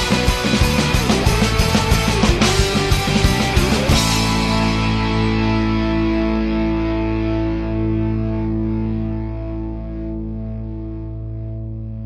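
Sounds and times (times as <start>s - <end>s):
distorted electric guitar chord: 0.0s - 12.0s.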